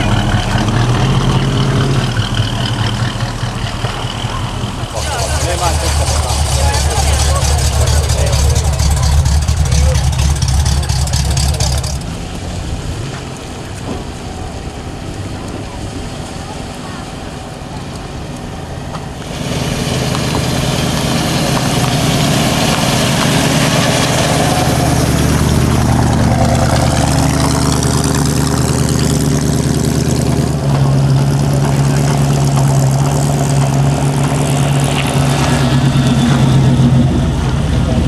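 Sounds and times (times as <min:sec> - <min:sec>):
vee eight engine idling: 0:00.0 - 0:38.0.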